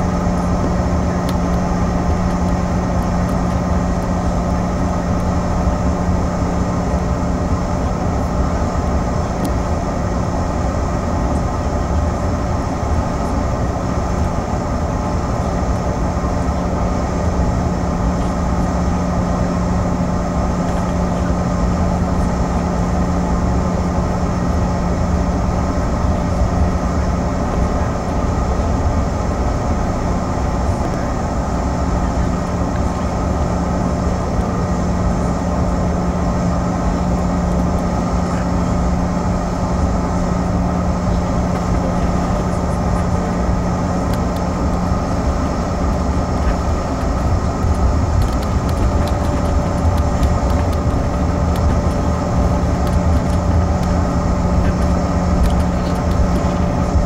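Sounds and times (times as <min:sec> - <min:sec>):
jet airliner cabin drone: 0:00.0 - 0:57.0.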